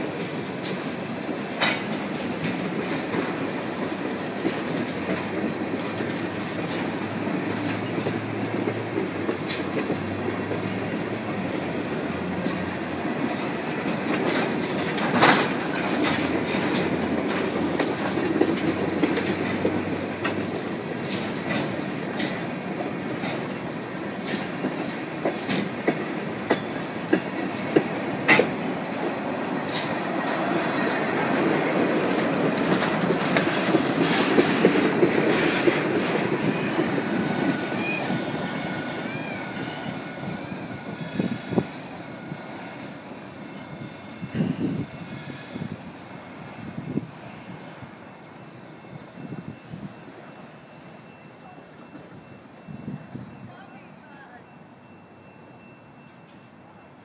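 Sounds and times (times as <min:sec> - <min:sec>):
train wheels rumbling on rail: 0:00.0 - 0:56.6.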